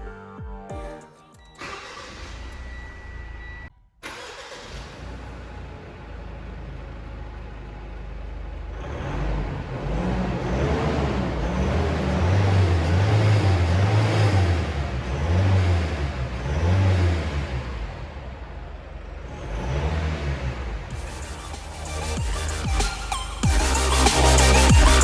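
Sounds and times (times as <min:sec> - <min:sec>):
diesel engine idling and revving: 0:01.6 - 0:25.0.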